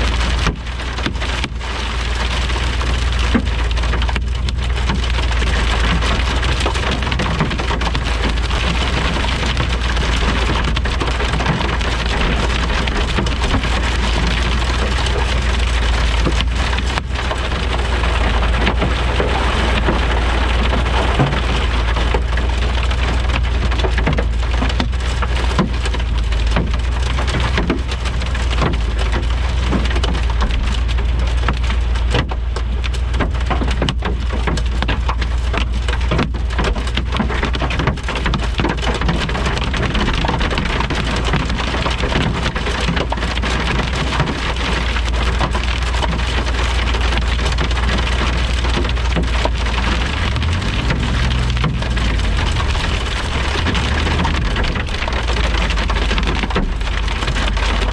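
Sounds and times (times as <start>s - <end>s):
deep rumble: 0.0s - 57.9s
heavy rain pattering: 0.0s - 57.9s.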